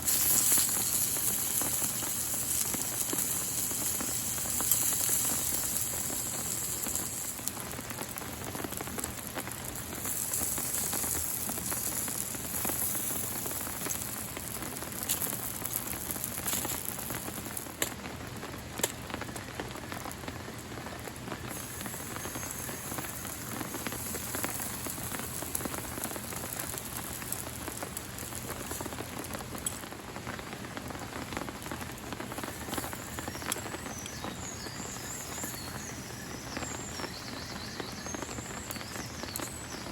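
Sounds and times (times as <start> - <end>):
rain drops tapping on surface: 0.0 - 39.9.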